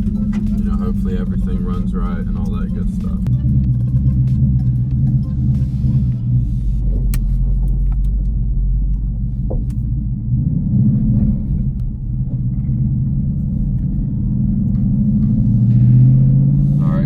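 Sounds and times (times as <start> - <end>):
car engine and exhaust running: 0.0 - 17.0.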